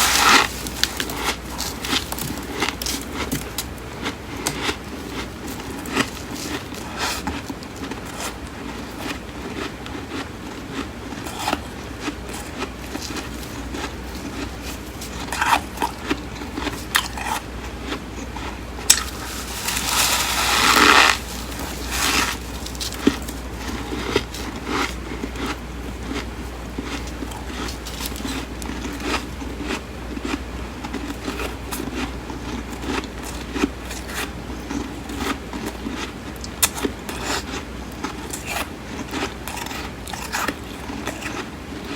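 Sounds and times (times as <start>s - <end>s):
crunching and chewing frost: 0.0s - 41.9s.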